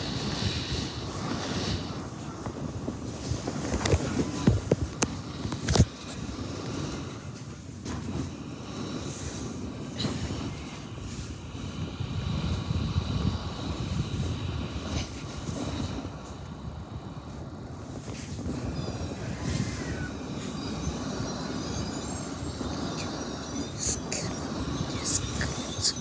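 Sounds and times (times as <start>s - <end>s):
mechanical rumble with high whine: 0.0s - 26.0s.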